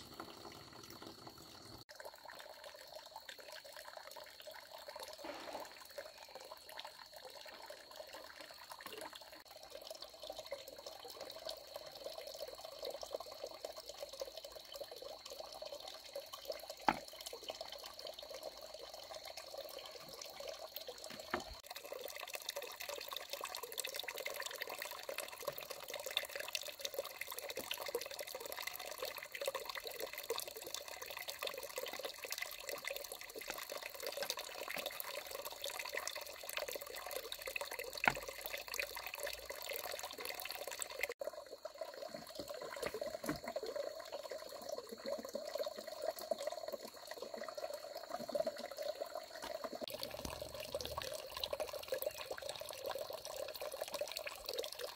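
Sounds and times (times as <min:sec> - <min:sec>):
small drips and splashes: 0:00.0 - 0:54.9
water running and trickling: 0:00.0 - 0:54.9.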